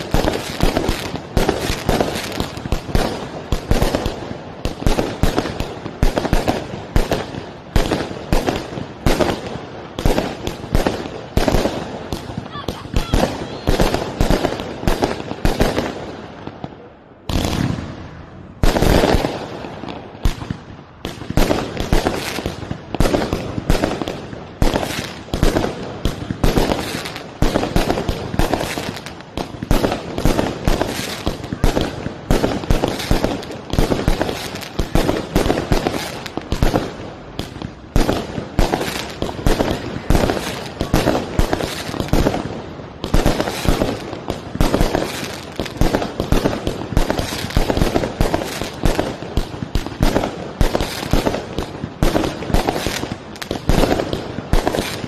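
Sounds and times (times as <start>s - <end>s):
fireworks bangs and cracks: 0.0s - 55.0s.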